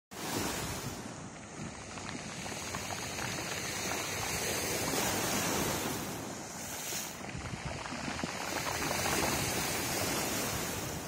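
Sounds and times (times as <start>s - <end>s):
sea waves breaking on shore: 0.1s - 11.0s.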